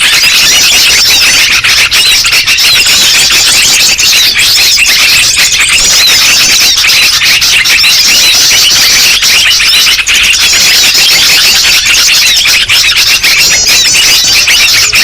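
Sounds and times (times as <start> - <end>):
chorus of small birds chirping: 0.0 - 15.0.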